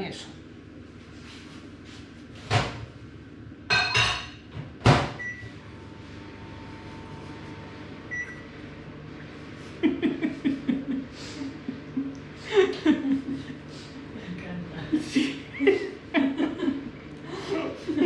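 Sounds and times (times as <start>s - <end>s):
microwave humming: 2.2s - 18.0s.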